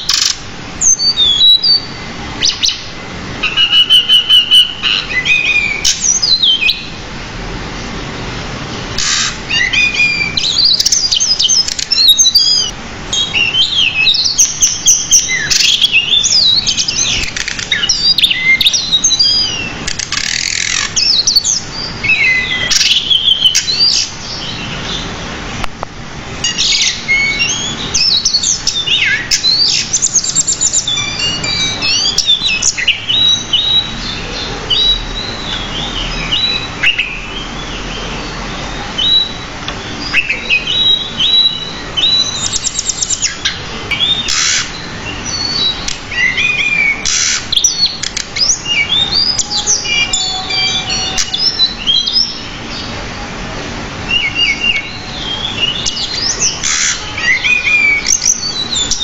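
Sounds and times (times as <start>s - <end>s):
harsh bird notes: 0.0s - 25.6s, 26.4s - 59.0s
bird singing chirps and trills: 0.0s - 59.0s.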